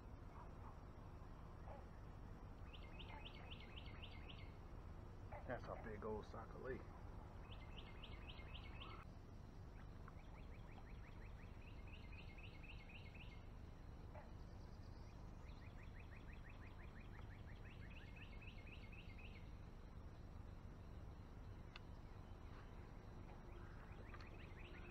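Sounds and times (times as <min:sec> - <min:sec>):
faint low hum: 0:00.0 - 0:24.9
distant bird singing: 0:01.6 - 0:24.9.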